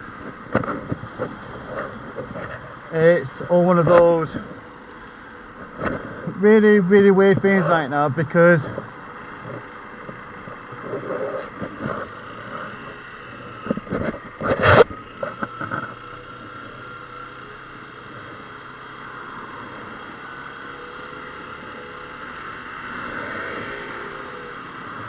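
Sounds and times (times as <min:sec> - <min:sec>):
motorcycle engine running: 0:00.0 - 0:25.0
road noise: 0:00.0 - 0:25.0.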